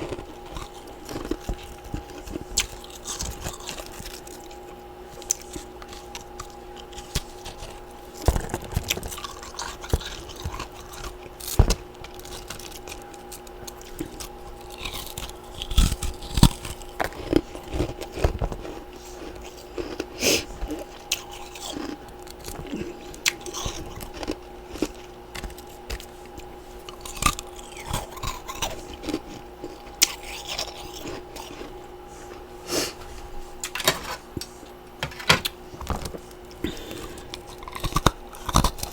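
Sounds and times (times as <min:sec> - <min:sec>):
ice being bitten and chewed: 0:00.0 - 0:31.9, 0:36.7 - 0:38.9
steady hum: 0:00.0 - 0:38.9.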